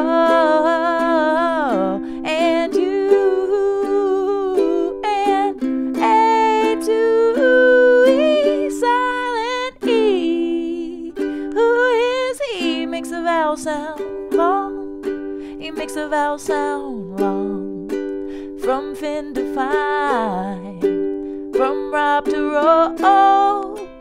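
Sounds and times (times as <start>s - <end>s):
strummed ukulele: 0.0s - 24.0s
woman singing: 0.0s - 24.0s.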